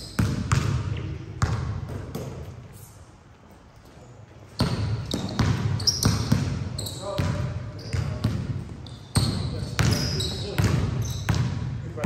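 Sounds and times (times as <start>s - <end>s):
basketball bouncing on court: 0.0s - 2.6s, 4.6s - 12.0s.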